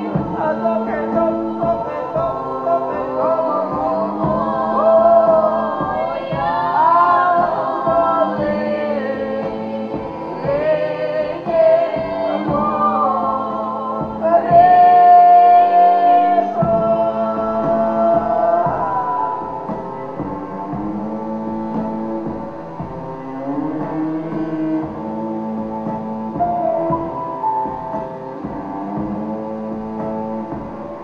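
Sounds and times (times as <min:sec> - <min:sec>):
drum strokes: 0:00.0 - 0:31.0
voices singing together: 0:00.0 - 0:31.0.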